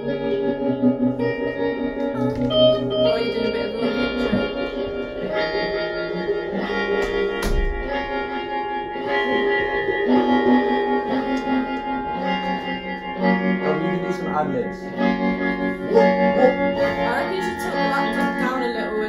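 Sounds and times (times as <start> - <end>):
organ chords: 0.0 - 19.0
plucked guitar: 0.0 - 19.0.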